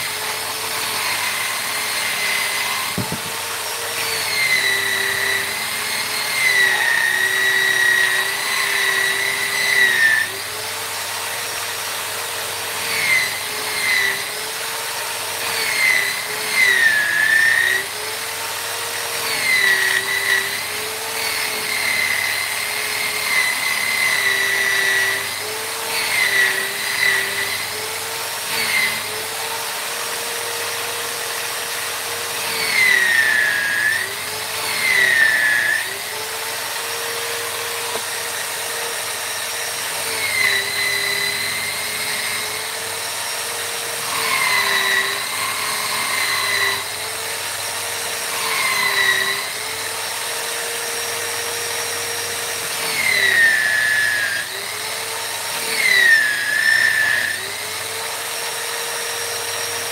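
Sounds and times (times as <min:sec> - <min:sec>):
rotary power tool whine on wood: 0:00.0 - 0:59.9.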